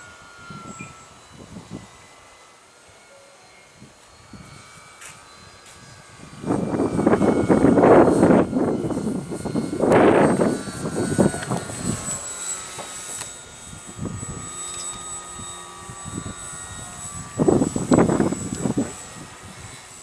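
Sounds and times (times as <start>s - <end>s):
wind buffeting microphone: 0.0s - 2.3s, 3.7s - 20.0s
model plane motor whine: 0.0s - 20.0s.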